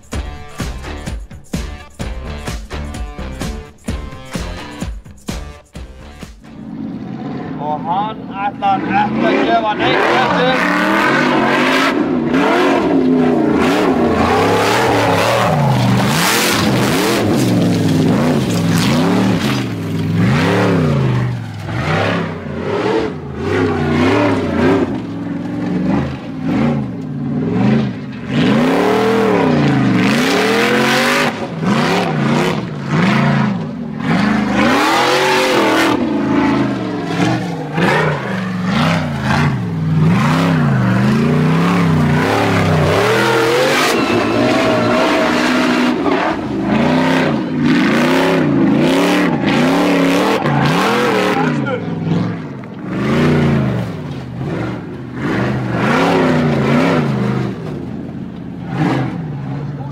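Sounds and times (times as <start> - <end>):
buggy engine revving hard: 5.4 - 59.9.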